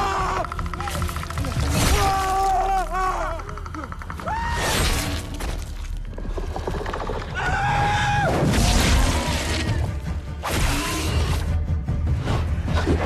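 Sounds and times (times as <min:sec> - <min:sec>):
tense music: 0:00.0 - 0:13.0.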